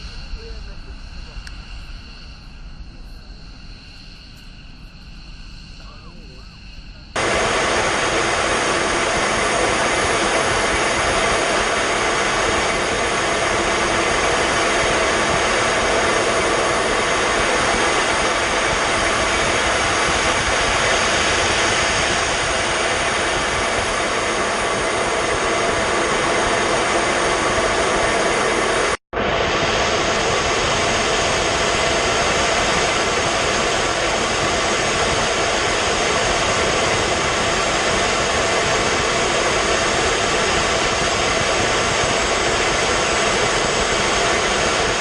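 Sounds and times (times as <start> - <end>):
jet aircraft rushing noise: 0.0 - 45.0.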